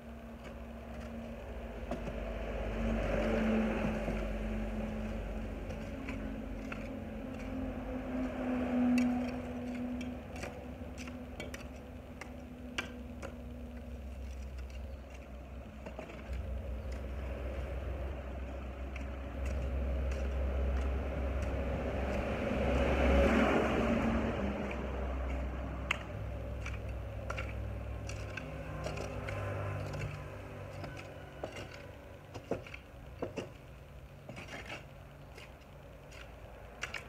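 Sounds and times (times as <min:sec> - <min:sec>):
vehicle passing: 0:00.0 - 0:13.7, 0:16.3 - 0:32.3
low steady rumble: 0:00.0 - 0:37.0.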